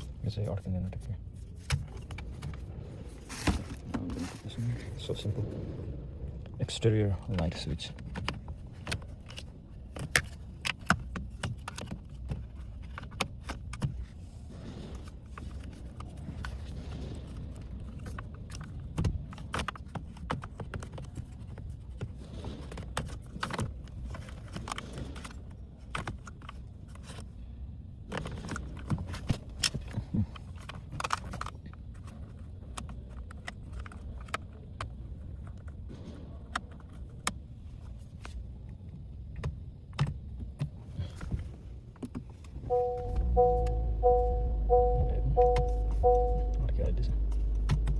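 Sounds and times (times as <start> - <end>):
low background rumble: 0.0 - 47.9.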